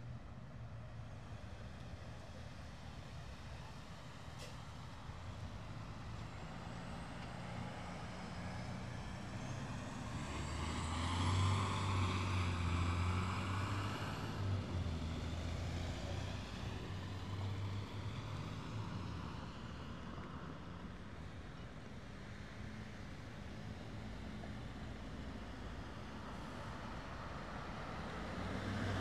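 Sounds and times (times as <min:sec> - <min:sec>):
vehicle engine hum passing: 0:00.1 - 0:29.0.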